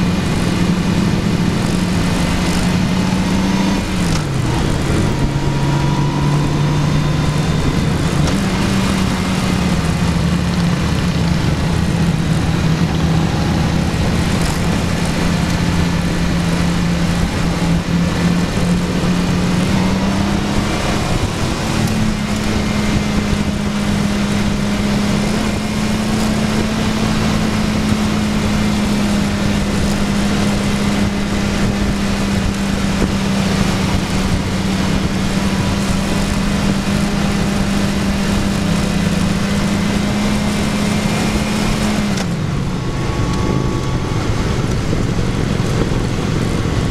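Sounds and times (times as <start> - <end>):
motorcycle engine running: 0.0 - 46.9
wind noise on microphone: 0.0 - 46.9.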